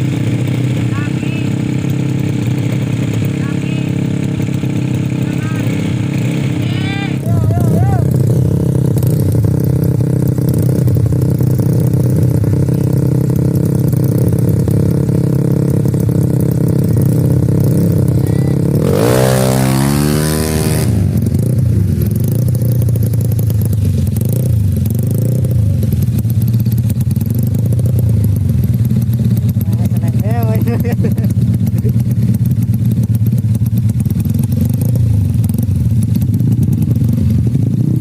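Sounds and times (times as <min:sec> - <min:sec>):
scooter engine revving: 0:00.0 - 0:38.0.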